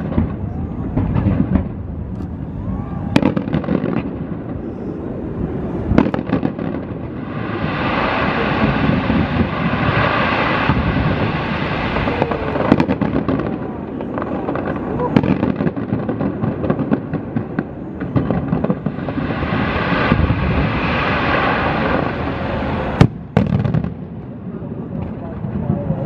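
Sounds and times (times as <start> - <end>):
fireworks banging: 0.0 - 2.4, 3.0 - 26.0
fireworks crackling: 0.0 - 26.0.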